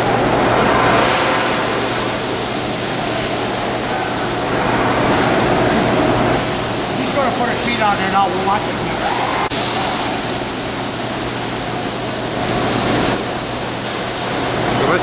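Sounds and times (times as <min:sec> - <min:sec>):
loud rushing hiss: 0:00.0 - 0:15.0.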